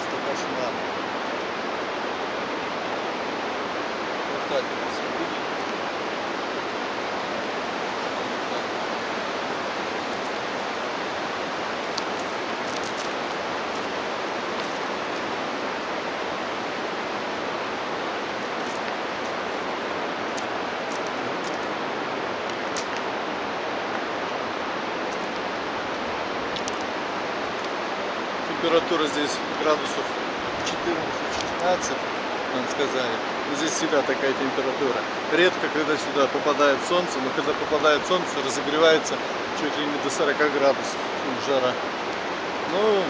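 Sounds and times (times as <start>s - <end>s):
river rushing: 0.0s - 43.0s.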